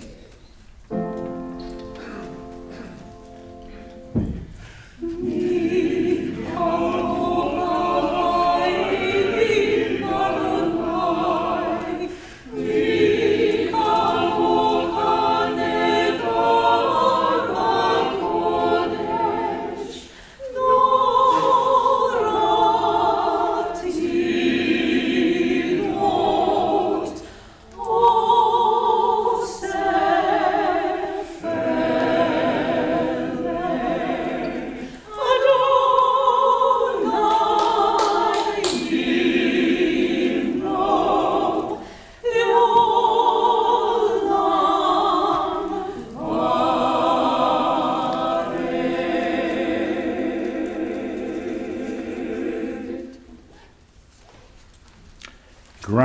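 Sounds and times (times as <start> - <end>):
choir singing: 4.9 - 53.7.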